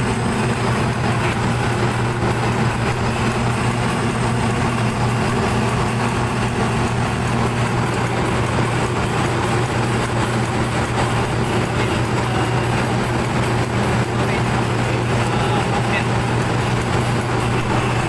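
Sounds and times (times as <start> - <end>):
machinery low hum: 0.0 - 18.0.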